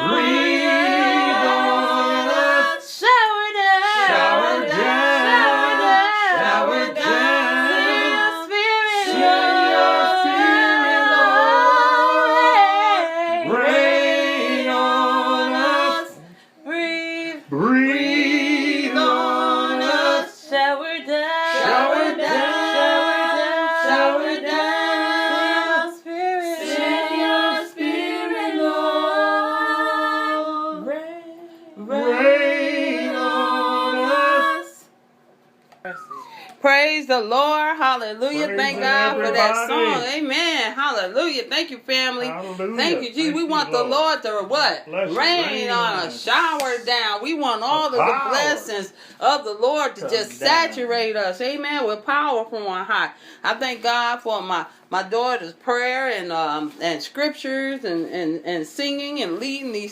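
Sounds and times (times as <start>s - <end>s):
voices singing a gospel song: 0.0s - 35.0s, 35.9s - 59.9s.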